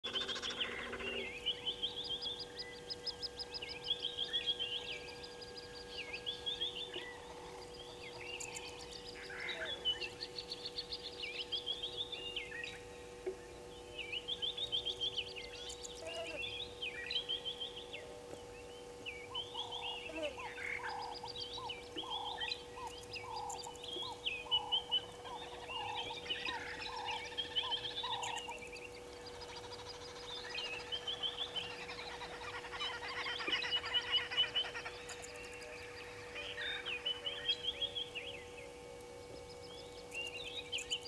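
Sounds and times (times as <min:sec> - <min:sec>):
birds chirping: 0:00.0 - 0:41.0
faint steady hum: 0:00.0 - 0:41.0.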